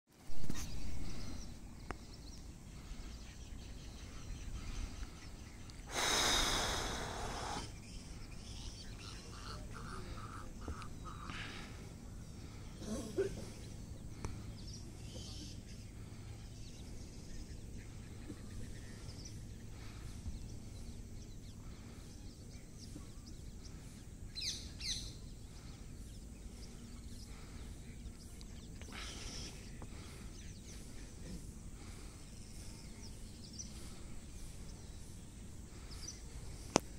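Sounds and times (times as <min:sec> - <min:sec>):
birds calling: 0:00.1 - 0:36.9
low steady background noise: 0:00.1 - 0:36.9.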